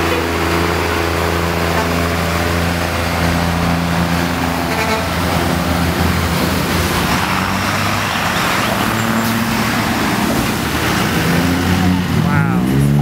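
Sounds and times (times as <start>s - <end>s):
bus engine driving past: 0.0s - 13.0s
hum of passing vehicles: 0.0s - 13.0s.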